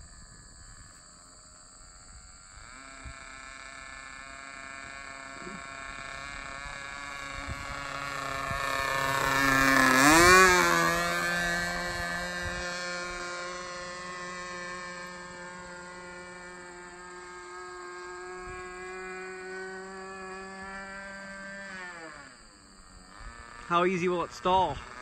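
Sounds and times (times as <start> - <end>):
model airplane motor droning: 0.0 - 25.0.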